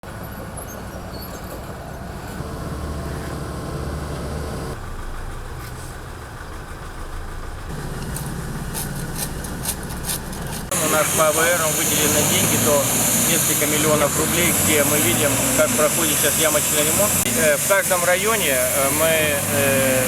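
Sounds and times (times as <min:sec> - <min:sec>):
machinery and truck engines running: 0:00.0 - 0:20.0.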